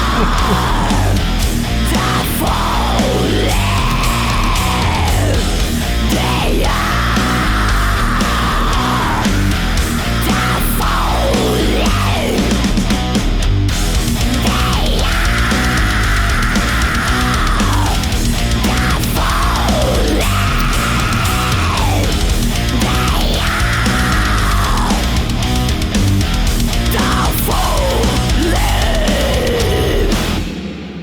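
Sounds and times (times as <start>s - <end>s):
high lead guitar line sliding down: 0.0s - 30.7s
distorted guitars: 0.0s - 31.0s
drums playing: 0.0s - 31.0s.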